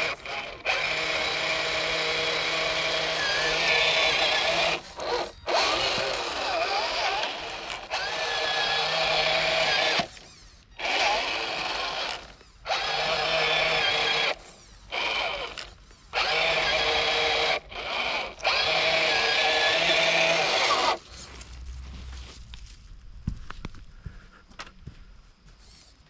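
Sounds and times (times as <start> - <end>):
electric motor whining: 0.0 - 21.3.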